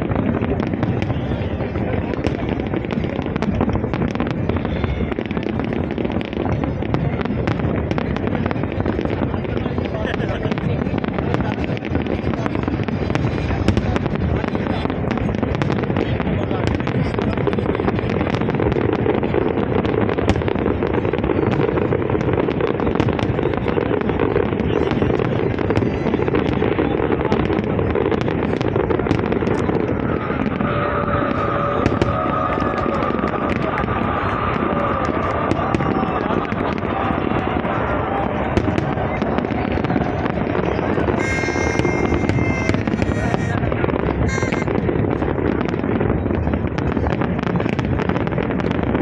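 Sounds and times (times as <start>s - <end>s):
fireworks cracking and popping: 0.0s - 30.6s, 31.2s - 49.0s
low rumble of fireworks bursts: 0.0s - 49.0s.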